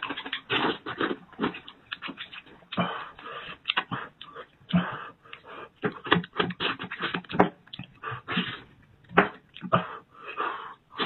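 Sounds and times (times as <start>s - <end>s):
wet smacking chewing: 0.0s - 9.8s.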